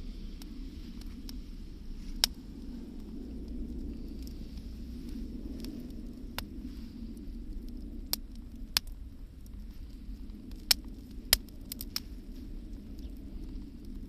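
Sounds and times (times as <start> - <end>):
sharp pops of fire: 0.0 - 14.0
steady low rumble: 0.0 - 14.0
wood bonfire crackling: 0.0 - 14.0.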